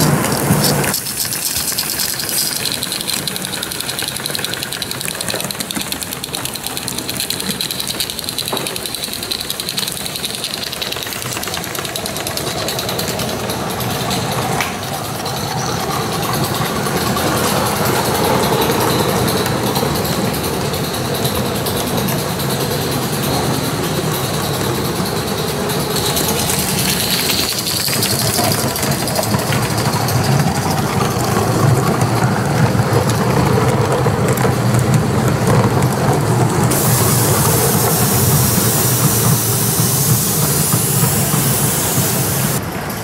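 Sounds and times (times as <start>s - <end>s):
wagon wheels rattling on track: 0.0s - 42.6s
steam locomotive exhaust beat: 0.0s - 42.7s.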